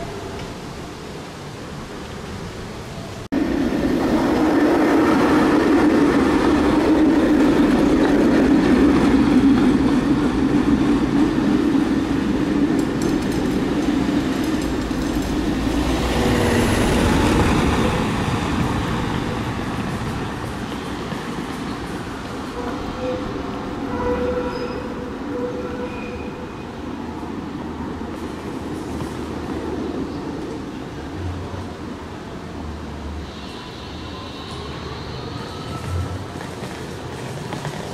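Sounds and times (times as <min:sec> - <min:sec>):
tram wheels rumbling on rails: 0:00.0 - 0:37.9.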